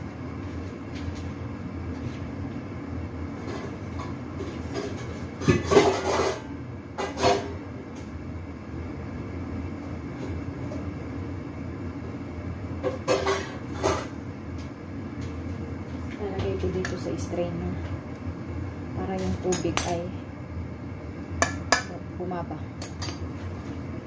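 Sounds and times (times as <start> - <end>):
low kitchen rumble: 0.0 - 24.0.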